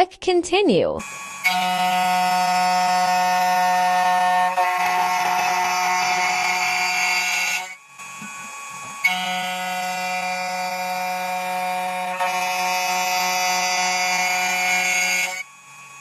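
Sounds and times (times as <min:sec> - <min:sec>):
key cutting machine whine: 0:01.0 - 0:16.0.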